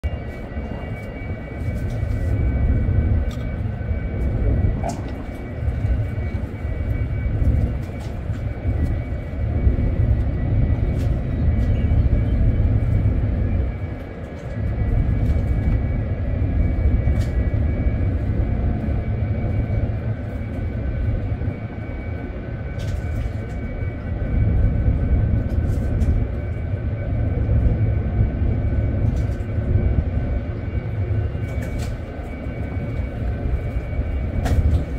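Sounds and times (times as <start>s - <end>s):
faint steady whine: 0.0s - 34.9s
ship deck rumble: 0.0s - 34.9s.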